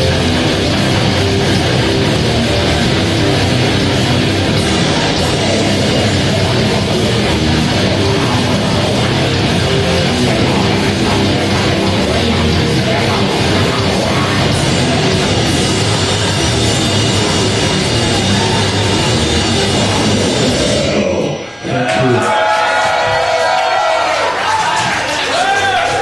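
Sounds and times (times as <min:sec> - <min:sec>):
drum kit: 0:00.0 - 0:23.6
bass guitar: 0:00.0 - 0:24.9
distorted electric guitars: 0:00.0 - 0:26.0.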